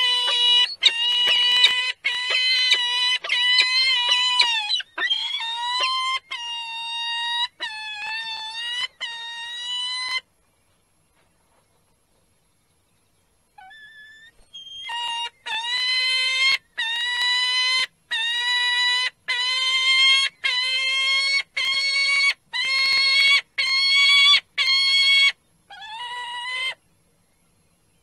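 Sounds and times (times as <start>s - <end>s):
falcon calling: 0.0s - 10.2s, 13.6s - 26.8s.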